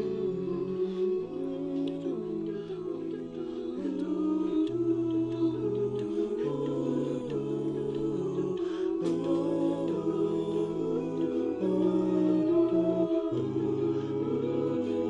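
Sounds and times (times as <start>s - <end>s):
male a cappella group singing: 0.0s - 15.0s.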